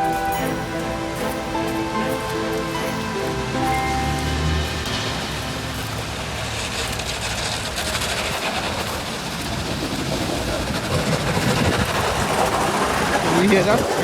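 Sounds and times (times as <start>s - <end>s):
street traffic rush: 0.0s - 14.0s
vehicle passing: 0.0s - 14.0s.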